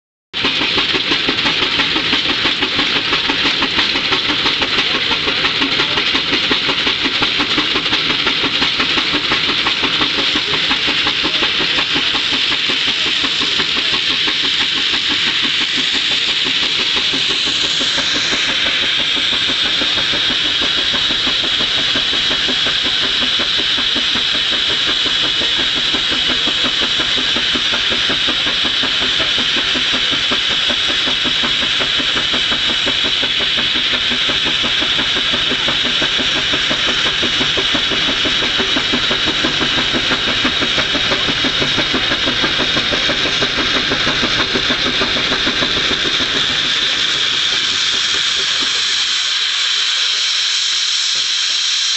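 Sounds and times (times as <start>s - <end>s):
loud steam hiss: 0.4s - 51.9s
steam engine exhaust beats: 0.4s - 51.9s.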